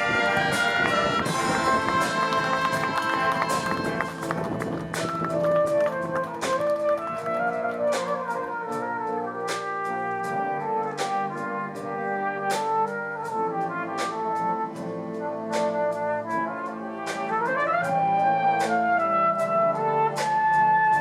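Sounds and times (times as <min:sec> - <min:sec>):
brass wind band music: 0:00.0 - 0:21.0.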